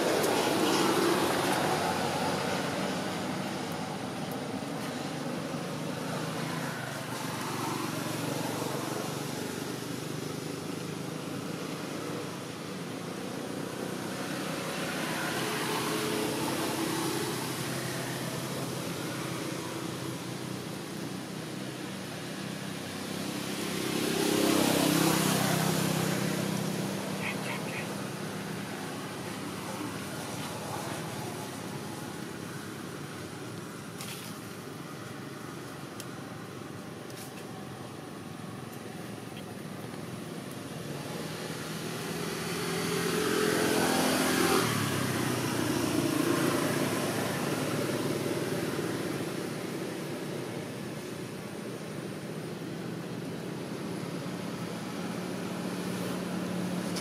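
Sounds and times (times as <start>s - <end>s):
road traffic hum: 0.0s - 57.0s.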